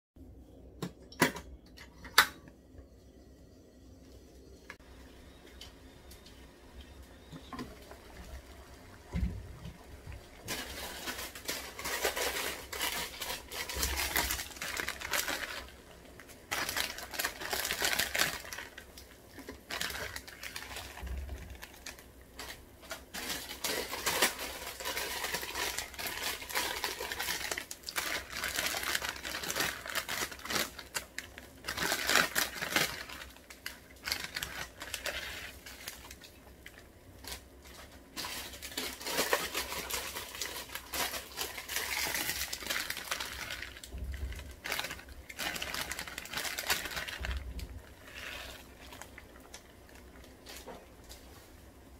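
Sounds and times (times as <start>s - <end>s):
water boiling in a pot: 4.0s - 51.9s.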